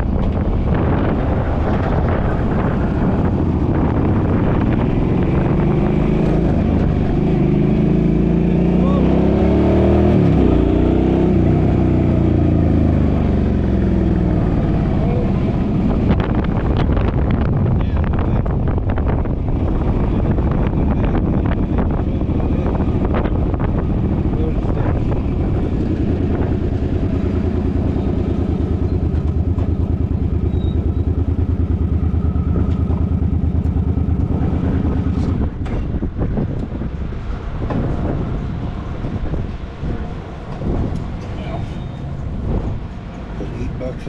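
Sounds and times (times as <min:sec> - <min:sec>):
car engine: 0:00.0 - 0:44.0
road noise: 0:00.0 - 0:44.0
wind noise: 0:00.0 - 0:44.0.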